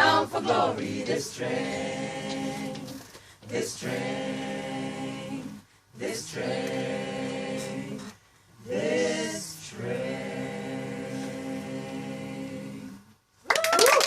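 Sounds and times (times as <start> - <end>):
vocal ensemble singing chords: 0.0 - 13.2.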